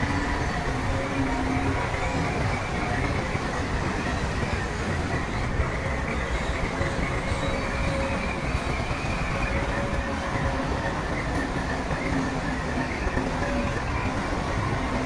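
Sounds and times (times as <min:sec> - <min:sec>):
steel tracks clattering: 0:00.0 - 0:15.0
track squeal: 0:00.0 - 0:15.0.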